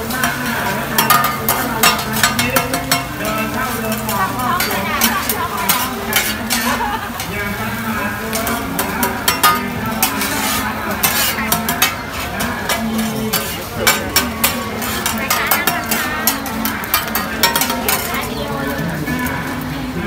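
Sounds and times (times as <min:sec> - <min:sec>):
metal spatulas scraping griddle: 0:00.0 - 0:19.6
egg sizzling in oil: 0:00.1 - 0:19.4.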